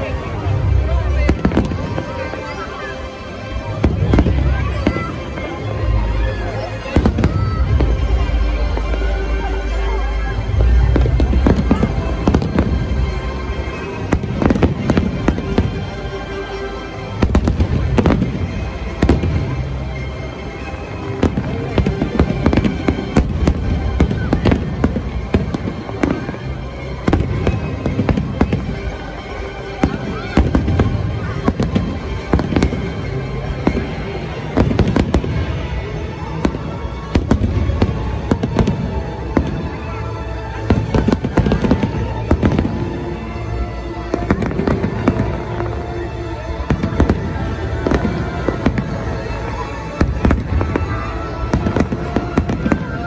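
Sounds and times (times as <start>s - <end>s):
fireworks bursting: 0.0s - 53.0s
music playing: 0.0s - 53.0s.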